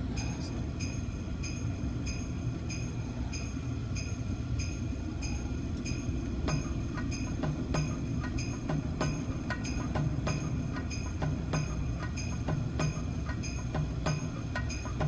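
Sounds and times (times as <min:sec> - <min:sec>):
car road and engine rumble: 0:00.0 - 0:15.0
turn signal ticking: 0:00.1 - 0:15.0.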